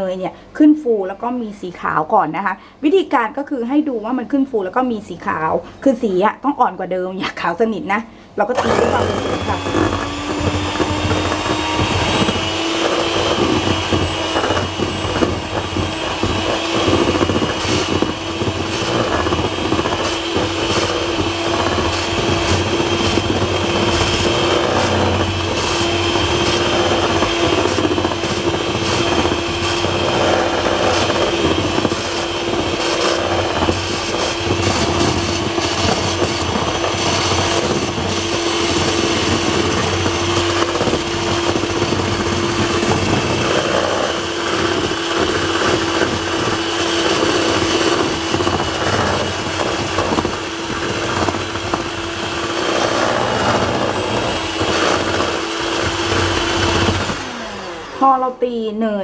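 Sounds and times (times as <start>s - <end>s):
electric hand mixer whine: 8.4s - 59.0s.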